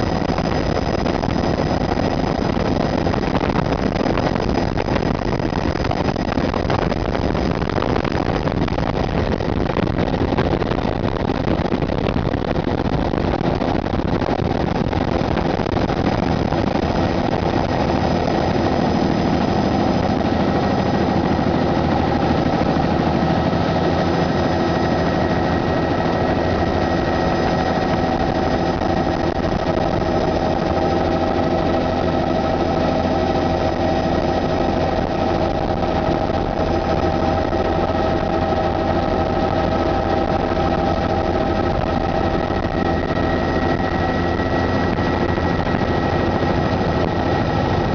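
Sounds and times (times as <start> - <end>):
constant high whine: 0.0 - 47.9
helicopter rotor and engine: 0.0 - 47.9.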